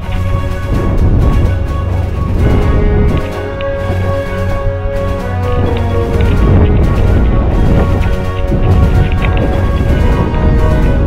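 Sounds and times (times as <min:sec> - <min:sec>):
sustained chords over heavy bass: 0:00.0 - 0:11.0.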